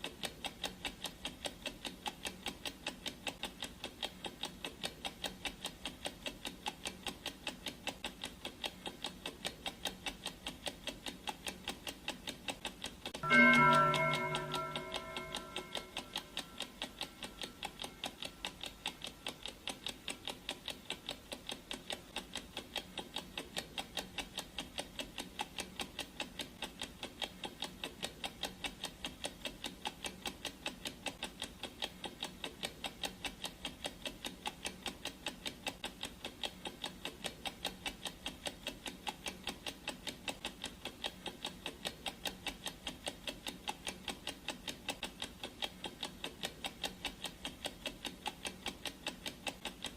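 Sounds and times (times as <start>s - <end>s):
clock ticking: 0.0s - 49.9s.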